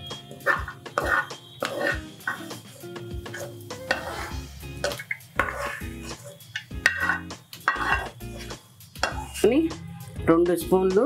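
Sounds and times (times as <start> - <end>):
steel spoon scraping metal pan: 0.2 - 9.4.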